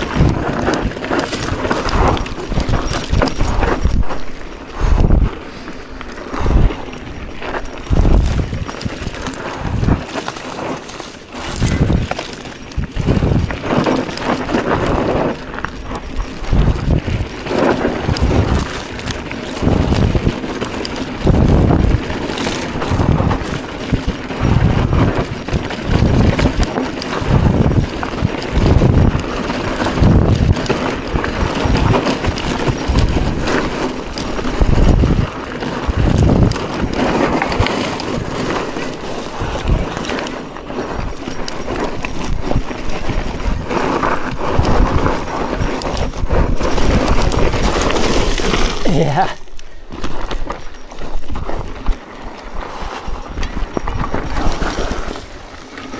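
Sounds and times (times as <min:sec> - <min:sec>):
bike rattling: 0:00.0 - 0:55.9
tyres crunching over rocks: 0:00.0 - 0:55.9.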